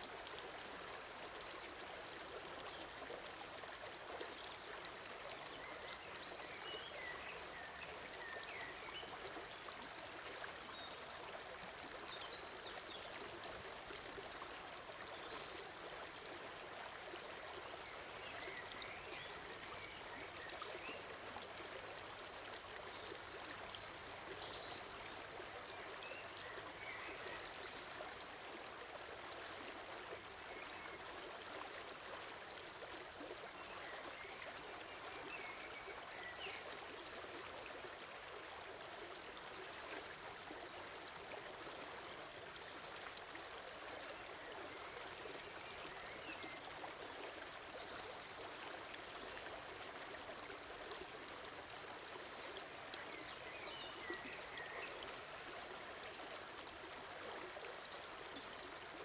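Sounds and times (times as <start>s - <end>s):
stream over stones: 0.0s - 59.0s.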